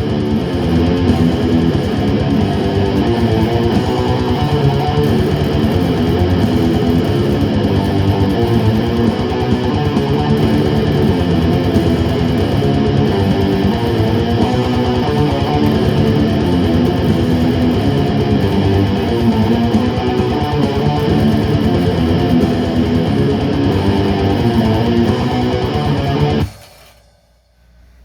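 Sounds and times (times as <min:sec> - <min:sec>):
band jamming: 0:00.0 - 0:26.5
strummed electric guitar: 0:00.0 - 0:26.7.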